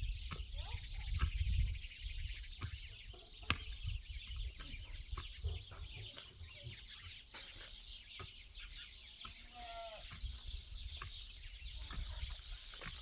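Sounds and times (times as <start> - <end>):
small birds chirping: 0.0 - 13.0
chickens clucking: 2.6 - 13.0.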